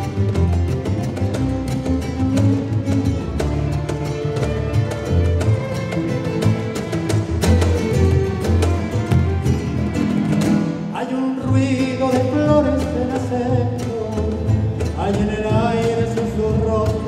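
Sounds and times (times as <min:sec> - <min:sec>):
double bass pulse: 0:00.0 - 0:10.8, 0:11.4 - 0:17.0
tango band playing: 0:00.0 - 0:17.0.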